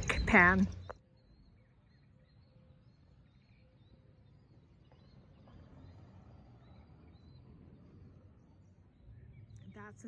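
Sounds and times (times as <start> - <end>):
distant bird chirps: 0.0 - 10.0
low background rumble: 0.0 - 10.0.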